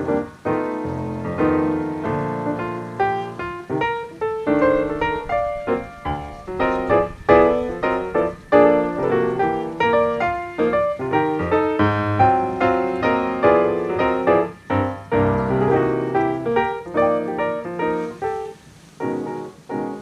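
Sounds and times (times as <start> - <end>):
lively piano music: 0.0 - 20.0.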